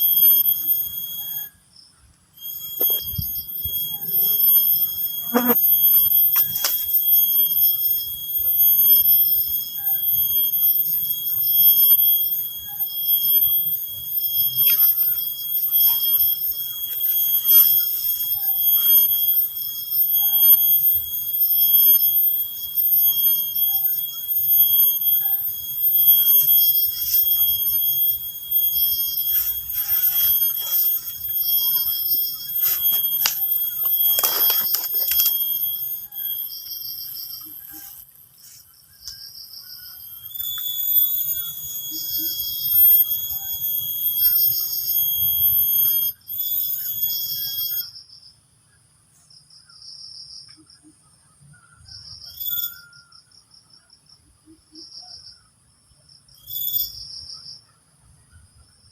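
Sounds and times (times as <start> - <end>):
insects trilling in chorus: 0.0 - 58.9.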